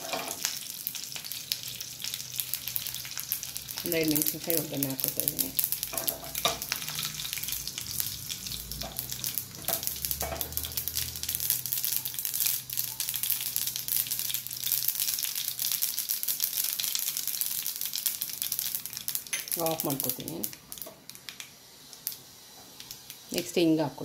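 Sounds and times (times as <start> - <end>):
seeds sizzling in hot oil: 0.0 - 24.0.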